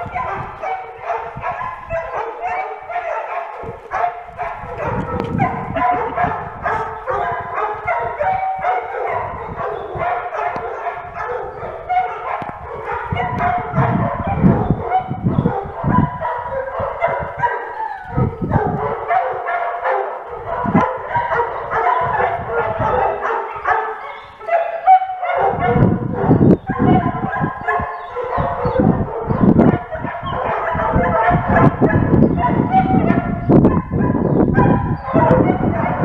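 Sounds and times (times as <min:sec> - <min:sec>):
dogs barking and yipping: 0:00.0 - 0:36.0.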